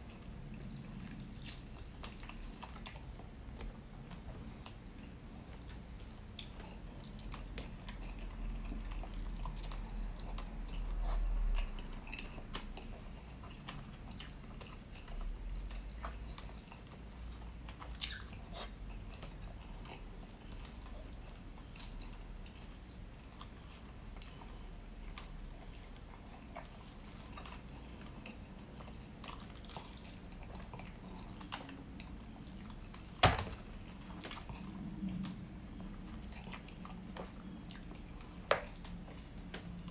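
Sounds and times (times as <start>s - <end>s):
chewing with wet mouth sounds: 0.0s - 39.9s.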